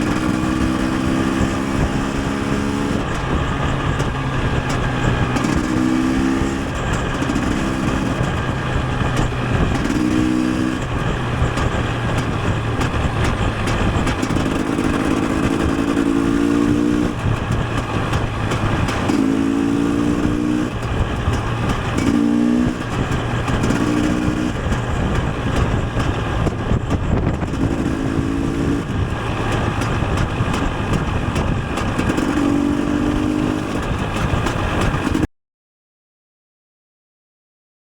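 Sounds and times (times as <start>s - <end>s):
motorbike engine revving: 0.0s - 35.3s
wind noise on microphone: 0.0s - 35.3s.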